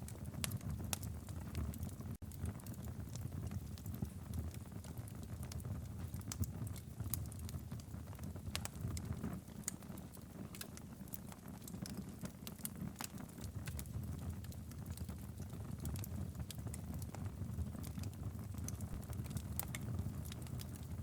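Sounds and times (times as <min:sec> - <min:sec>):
low rumble of burning logs: 0:00.0 - 0:21.0
wood fire pops and snaps: 0:00.0 - 0:21.0.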